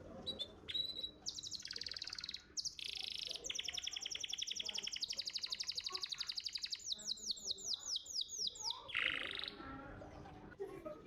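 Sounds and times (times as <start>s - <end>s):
canary singing trills: 0.2s - 9.6s.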